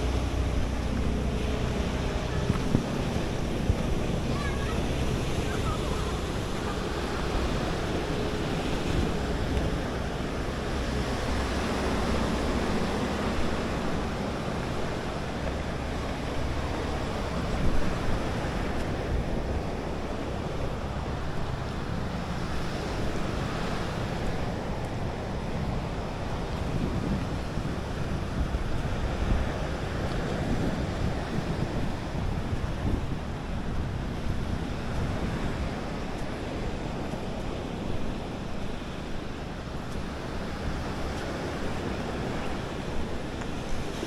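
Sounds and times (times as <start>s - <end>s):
surf breaking on shore: 0.0s - 44.0s
wind buffeting microphone: 0.0s - 44.0s.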